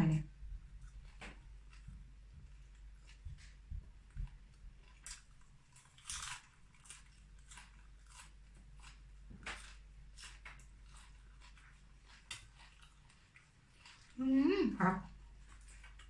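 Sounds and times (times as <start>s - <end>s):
person chewing food: 0.4s - 14.2s, 14.9s - 16.0s.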